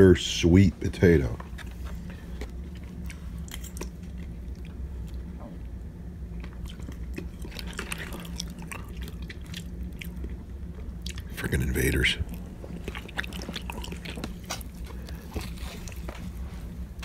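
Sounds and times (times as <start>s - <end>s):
steady low hum: 0.0s - 17.0s
person chewing food: 1.4s - 17.0s.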